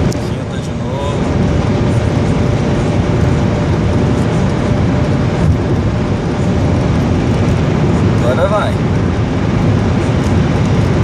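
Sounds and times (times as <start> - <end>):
car engine drone at high revs: 0.0 - 11.0
wind and road noise: 0.0 - 11.0.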